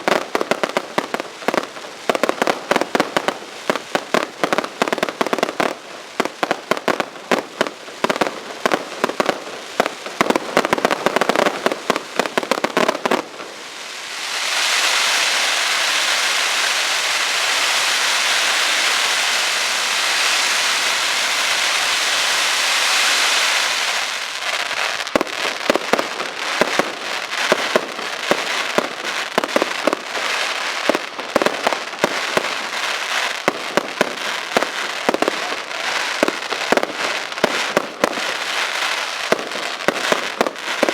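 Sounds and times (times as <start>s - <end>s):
fireworks bangs and cracks: 0.0s - 40.9s
fireworks hissing: 0.0s - 40.9s.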